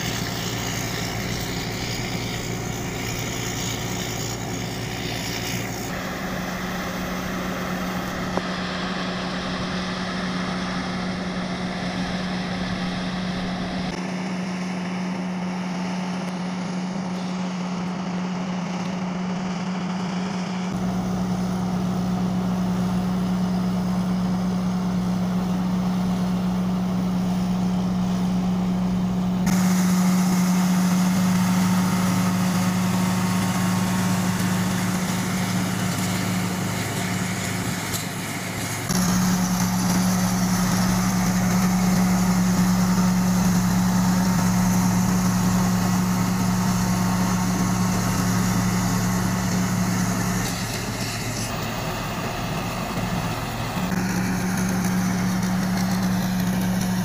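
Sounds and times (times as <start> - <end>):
combine harvester engine running: 0.0 - 57.0.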